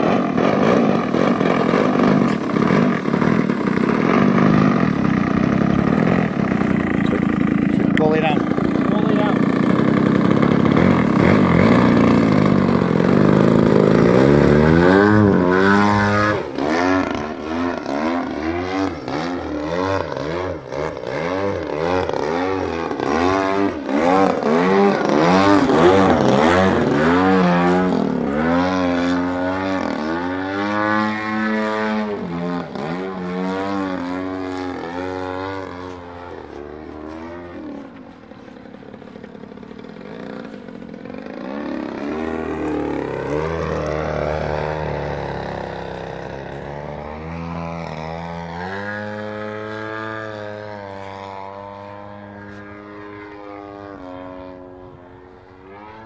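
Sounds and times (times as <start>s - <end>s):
model plane engine: 0.0s - 56.0s.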